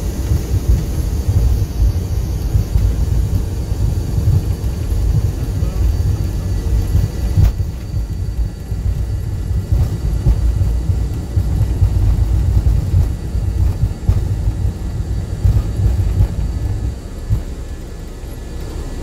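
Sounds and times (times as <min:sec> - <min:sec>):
jet engines rumbling: 0:00.0 - 0:19.0
wheels running on runway: 0:00.0 - 0:19.0.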